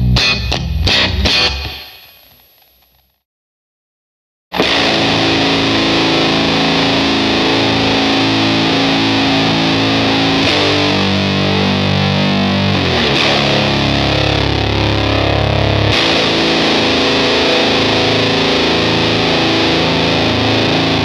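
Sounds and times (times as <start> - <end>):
distorted electric guitar chords: 0.0 - 3.0, 4.5 - 21.0.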